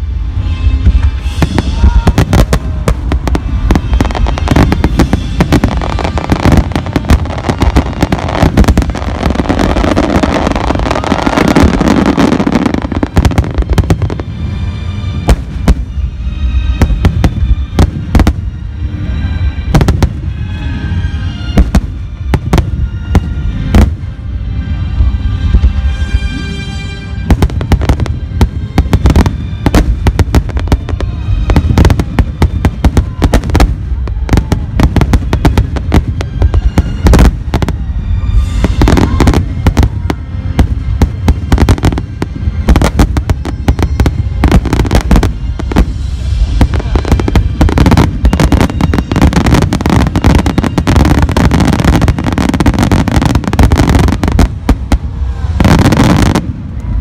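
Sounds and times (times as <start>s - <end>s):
fireworks bursting: 0.7s - 18.5s, 19.6s - 20.4s, 21.5s - 24.1s, 27.2s - 56.8s.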